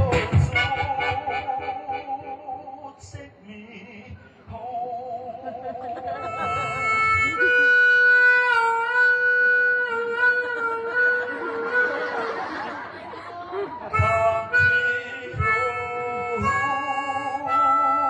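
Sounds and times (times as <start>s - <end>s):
person singing into a microphone: 0.0s - 12.9s, 13.8s - 18.0s
backing music: 0.0s - 18.0s.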